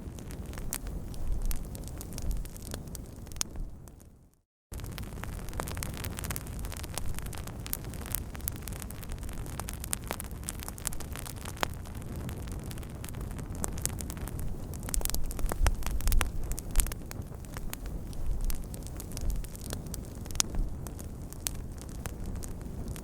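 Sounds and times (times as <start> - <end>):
low fire rush: 0.0 - 3.9, 4.8 - 23.0
campfire crackling and popping: 0.0 - 4.1, 4.7 - 23.0.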